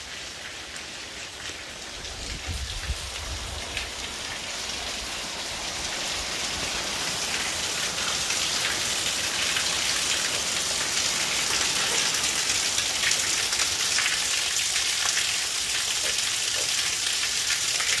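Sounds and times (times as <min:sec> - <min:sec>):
rain on a patio: 0:00.0 - 0:18.0
water spilling from a downspout: 0:00.1 - 0:18.0.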